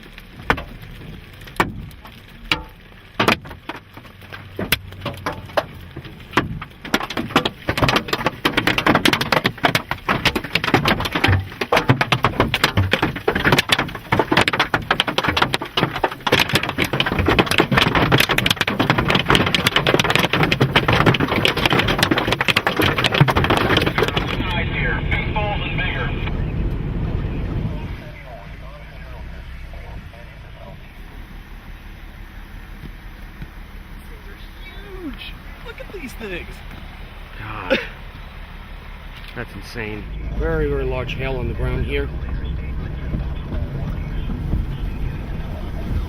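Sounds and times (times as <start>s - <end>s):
hailstones hitting a vehicle: 0.0s - 46.0s.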